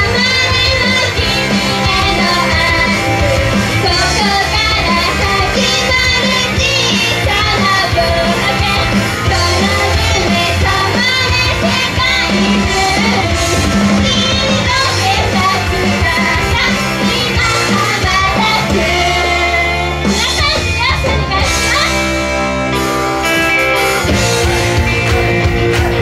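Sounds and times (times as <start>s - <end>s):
girls singing into microphones: 0.0s - 21.7s
upbeat pop music with drums: 0.0s - 22.4s, 23.4s - 26.0s.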